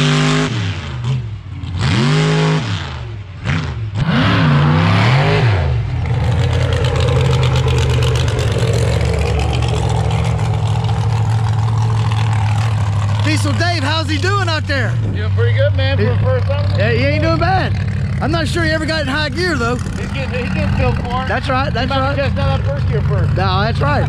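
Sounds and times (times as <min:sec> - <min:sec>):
truck engine revving hard: 0:00.0 - 0:24.0.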